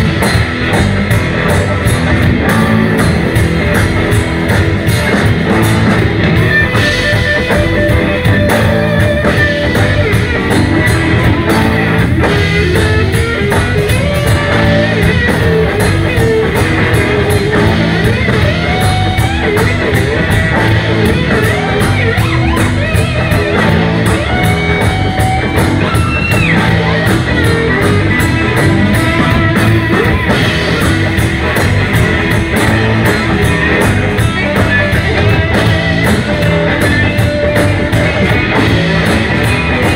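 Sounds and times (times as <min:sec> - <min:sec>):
blues band groove: 0:00.0 - 0:39.9
electric guitar lead: 0:00.0 - 0:39.9.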